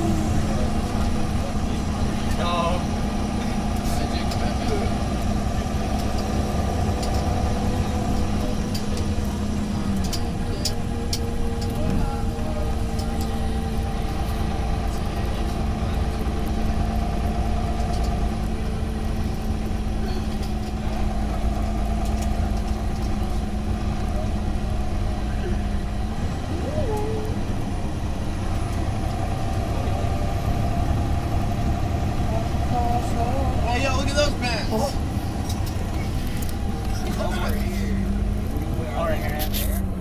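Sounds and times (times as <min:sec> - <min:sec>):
diesel engine rumble: 0:00.0 - 0:40.0.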